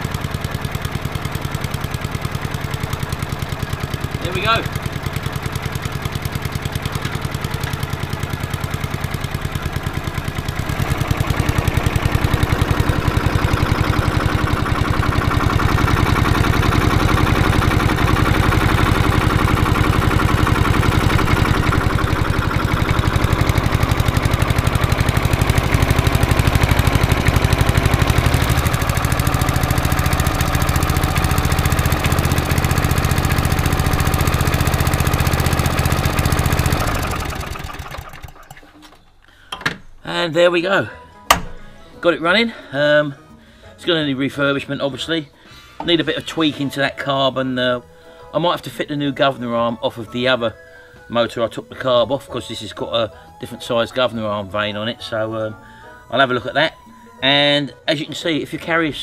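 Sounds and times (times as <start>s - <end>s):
lawnmower engine running: 0.0s - 42.7s, 43.9s - 59.0s.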